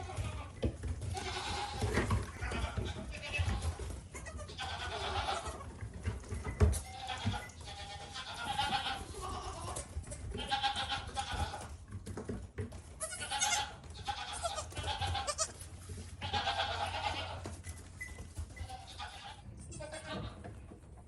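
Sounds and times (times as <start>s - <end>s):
goats bleating: 0.0s - 5.8s, 6.8s - 11.8s, 13.0s - 17.6s, 18.6s - 20.5s.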